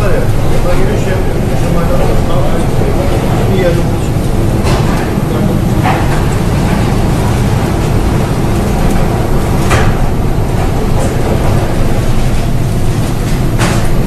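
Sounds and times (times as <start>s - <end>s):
sea water splashing across deck: 0.0s - 14.0s
ship engine rumble: 0.0s - 14.0s.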